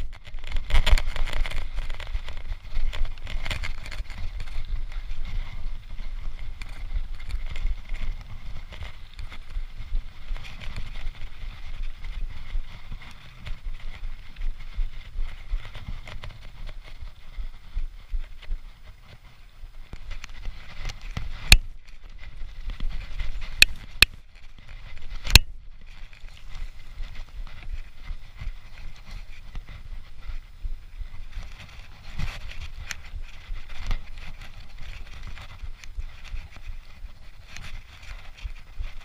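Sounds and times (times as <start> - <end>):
bike rattling: 0.0 - 39.0
bike tyres rolling on dirt: 0.0 - 39.0.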